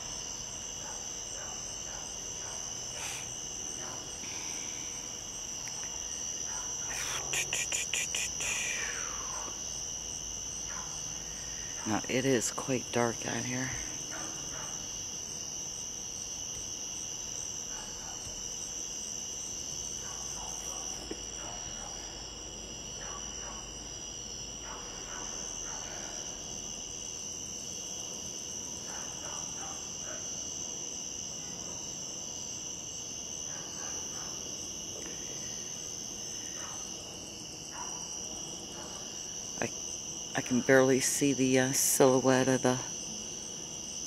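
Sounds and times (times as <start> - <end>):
crickets trilling: 0.0 - 44.0.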